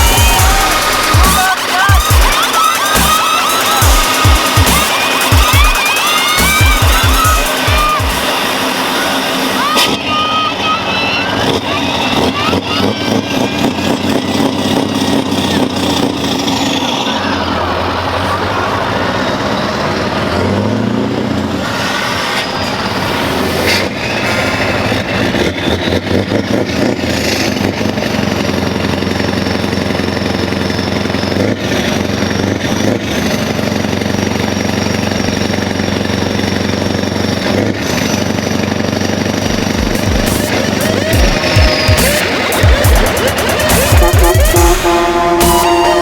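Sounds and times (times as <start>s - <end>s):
truck diesel engine revving: 0.0s - 46.0s.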